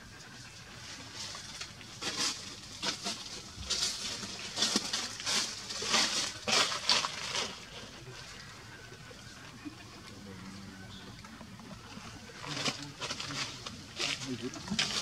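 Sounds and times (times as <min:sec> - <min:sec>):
dry leaves and twigs crunching: 0:00.2 - 0:10.0, 0:10.9 - 0:15.0.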